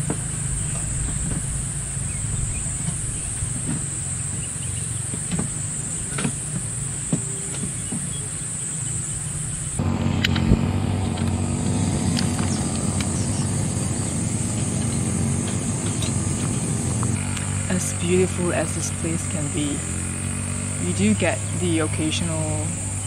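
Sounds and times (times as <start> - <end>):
brush cutter engine running: 0.0 - 23.0
high insect buzz: 0.0 - 23.0.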